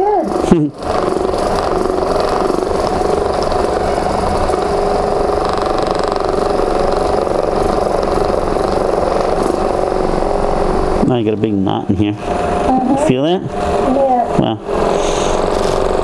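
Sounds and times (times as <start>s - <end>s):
massage gun running: 0.0s - 16.0s.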